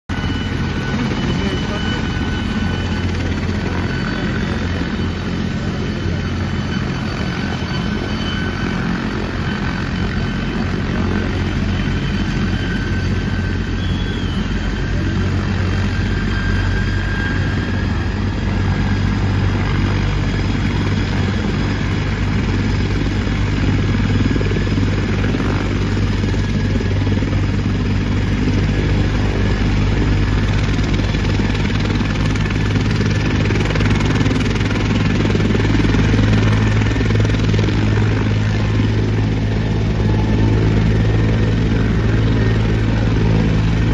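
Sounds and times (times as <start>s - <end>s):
helicopter rotor and engine drone: 0.0s - 43.9s.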